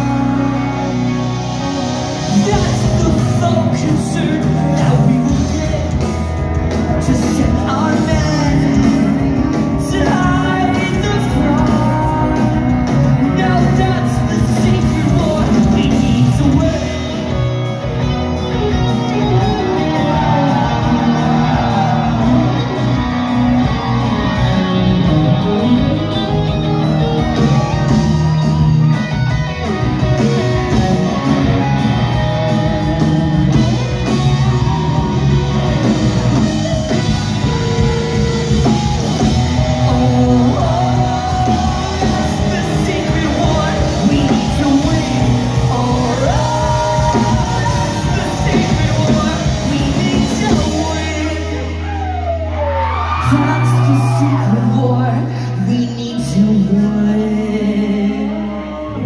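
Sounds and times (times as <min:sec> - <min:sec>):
lead singer singing: 0:00.0 - 0:59.0
live rock band playing: 0:00.0 - 0:59.0.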